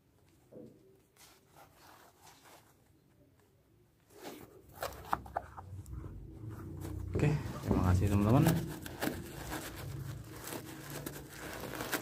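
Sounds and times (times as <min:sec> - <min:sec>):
shoe rustling: 0:01.0 - 0:12.0.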